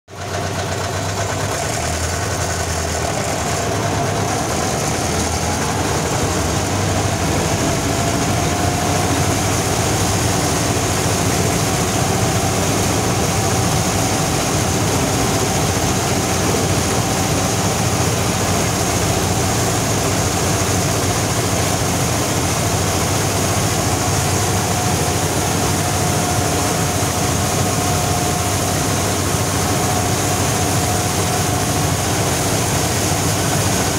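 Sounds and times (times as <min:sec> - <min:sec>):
combine threshing machinery: 0:00.1 - 0:33.9
tractor diesel engine under load: 0:00.1 - 0:33.9
steady whine: 0:00.2 - 0:33.9.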